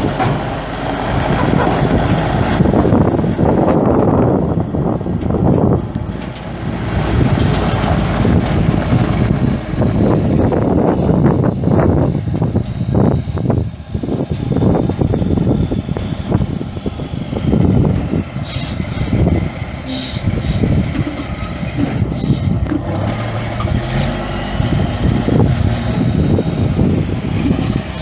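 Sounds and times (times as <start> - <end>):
truck diesel engine rumbling: 0.0 - 28.0.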